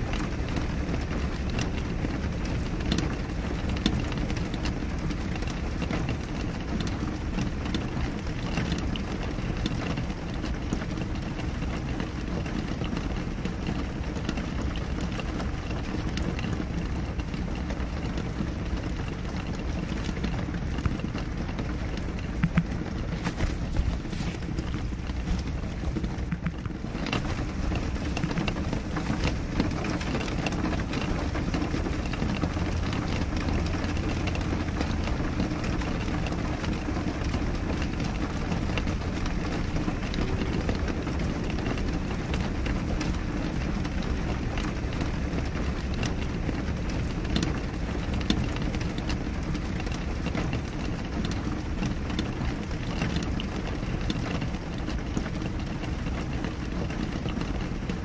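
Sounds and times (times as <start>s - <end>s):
low rumble of downpour: 0.0s - 58.0s
raindrops ticking on glass: 0.0s - 58.0s.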